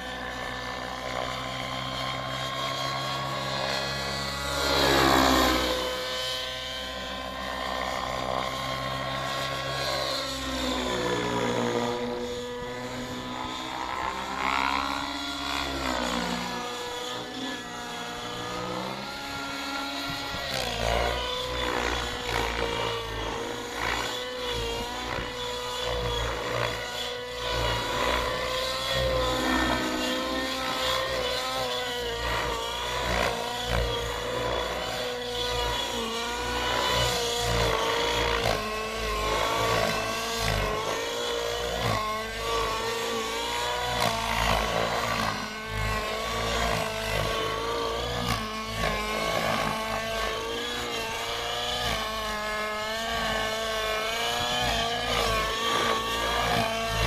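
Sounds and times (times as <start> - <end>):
model helicopter engine whine: 0.0 - 57.0.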